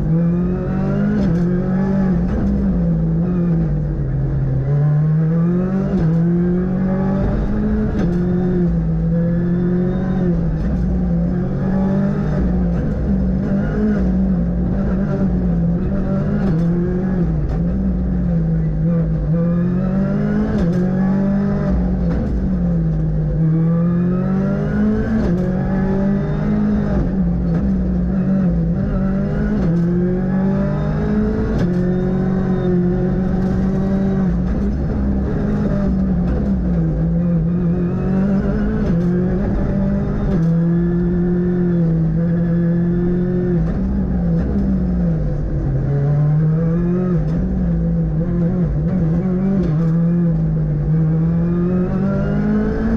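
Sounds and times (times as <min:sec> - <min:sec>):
rally car engine accelerating: 0:00.0 - 0:52.9.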